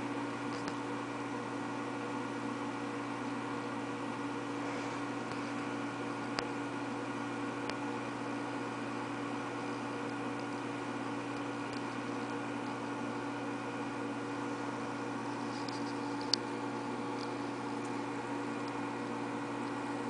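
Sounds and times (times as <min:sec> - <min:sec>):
electric hum with tones: 0:00.0 - 0:20.0.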